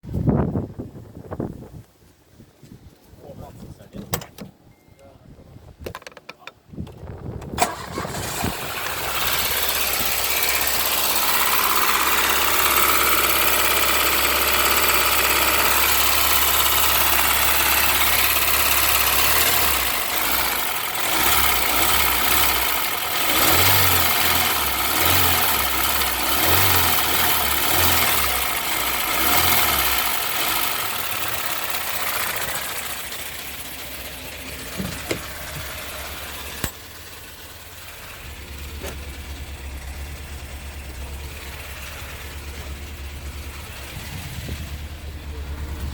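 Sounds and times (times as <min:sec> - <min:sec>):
car engine starting and idling: 0:05.9 - 0:45.9.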